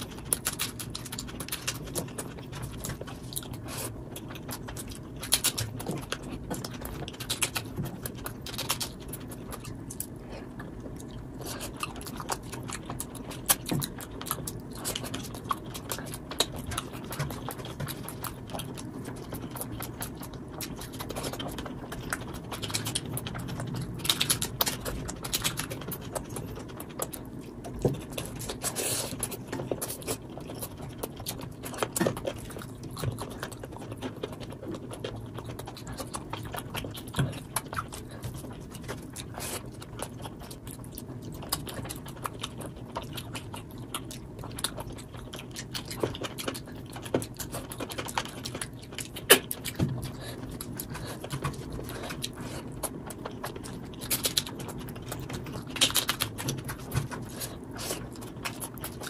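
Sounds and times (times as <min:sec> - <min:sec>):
person chewing and smacking: 0:00.0 - 0:59.0.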